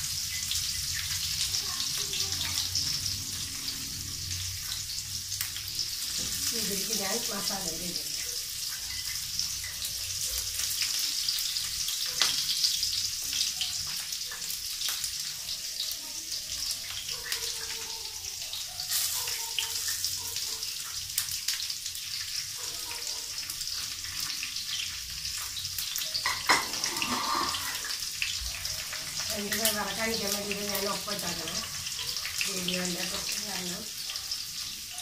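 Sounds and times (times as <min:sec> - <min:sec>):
food sizzling in oil: 0:00.0 - 0:35.0.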